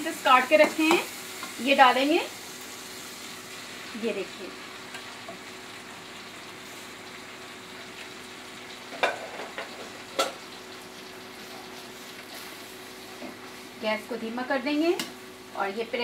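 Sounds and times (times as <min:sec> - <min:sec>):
bread frying sizzle: 0:00.0 - 0:16.0.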